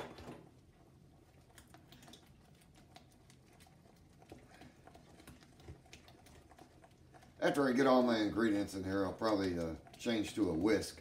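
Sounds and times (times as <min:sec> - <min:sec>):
utensil stirring batter in bowl: 0:00.0 - 0:11.0.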